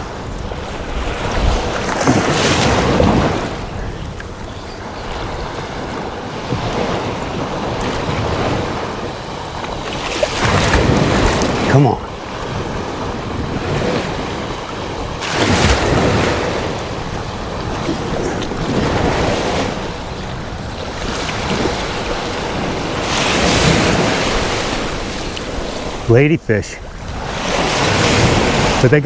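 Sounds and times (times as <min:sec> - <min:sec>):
surf breaking on beach: 0:00.0 - 0:29.0
wind on microphone: 0:00.0 - 0:29.0.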